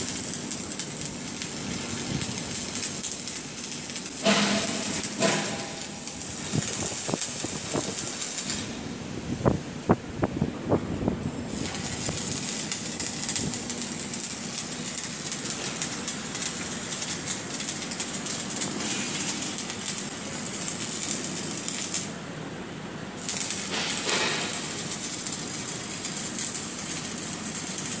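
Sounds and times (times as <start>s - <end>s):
arc welder crackling sizzle: 0.0s - 28.0s.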